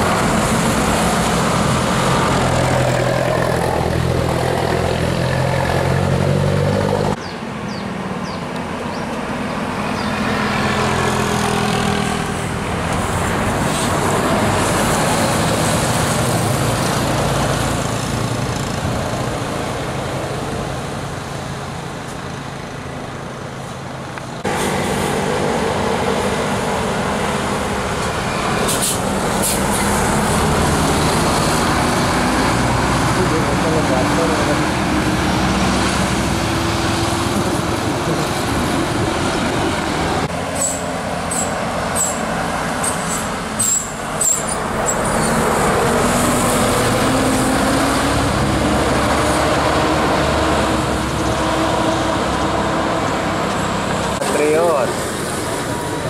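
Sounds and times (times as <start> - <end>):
road noise: 0.0 - 56.0
vehicle engines humming: 0.0 - 56.0.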